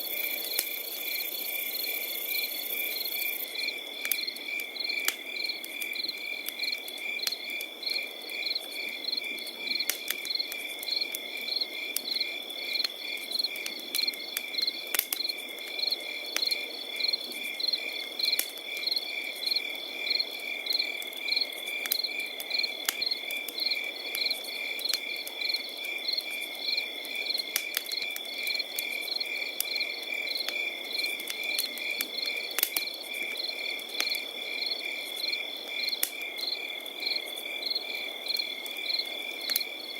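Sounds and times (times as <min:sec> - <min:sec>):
crickets chirping: 0:00.0 - 0:39.9
campfire pops and crackles: 0:00.1 - 0:01.0, 0:02.7 - 0:37.5, 0:38.3 - 0:39.8.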